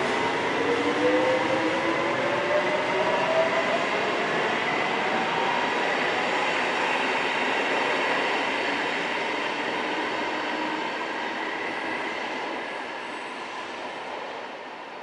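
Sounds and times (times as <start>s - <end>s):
electric train departing in tunnel: 0.0s - 15.0s.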